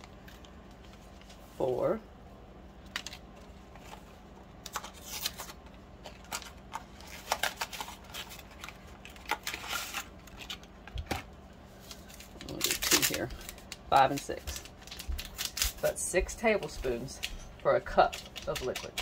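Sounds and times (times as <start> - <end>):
paper packets crinkling: 2.8 - 19.0.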